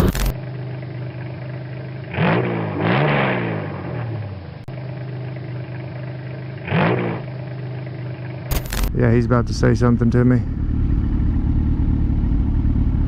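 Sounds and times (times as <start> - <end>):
motorcycle engine idling: 0.0 - 2.8, 4.1 - 13.0
vehicles passing by: 0.0 - 13.0.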